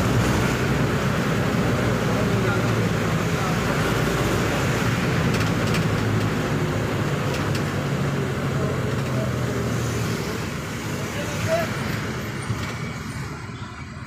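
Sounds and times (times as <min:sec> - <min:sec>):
tyres hissing on wet road: 0:00.0 - 0:12.8
engine and road drone: 0:00.0 - 0:14.0.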